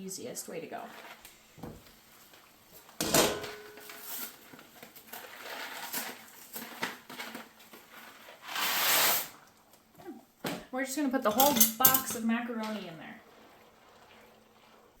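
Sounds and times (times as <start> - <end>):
rustling: 0.3 - 9.8, 12.5 - 15.0.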